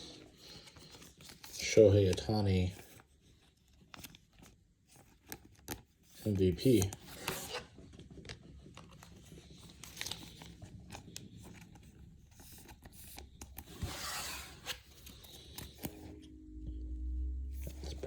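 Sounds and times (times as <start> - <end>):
cards clicking and rustling: 0.0 - 16.1.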